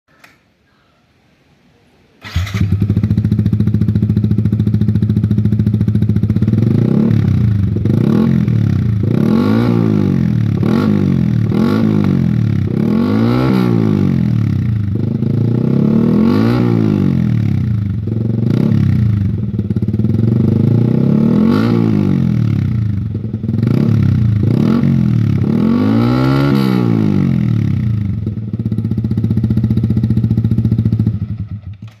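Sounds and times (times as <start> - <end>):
motorcycle engine idling and revving: 2.2 - 32.0.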